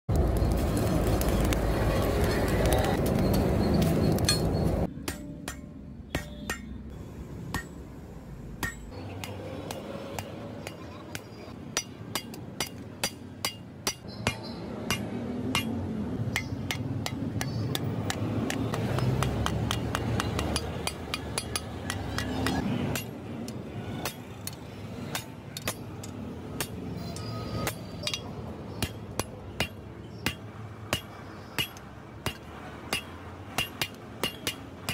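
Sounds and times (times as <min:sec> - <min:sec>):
hammer striking metal on anvil: 0:04.1 - 0:07.8, 0:08.6 - 0:34.9.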